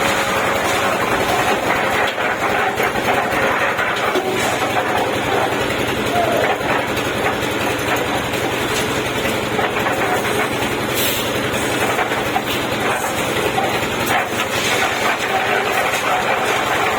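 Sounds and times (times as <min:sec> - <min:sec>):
concrete mixer engine drone: 0:00.0 - 0:16.9
concrete mixer rattling: 0:00.0 - 0:16.9.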